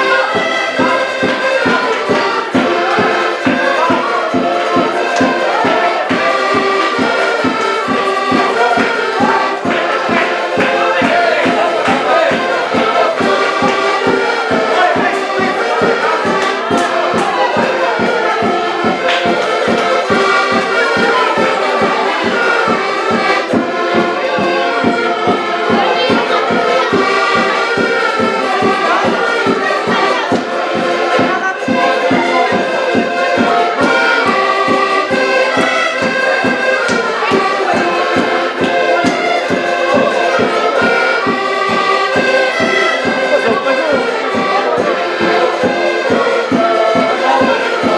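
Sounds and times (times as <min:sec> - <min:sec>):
accordions playing a tune: 0:00.0 - 0:47.9.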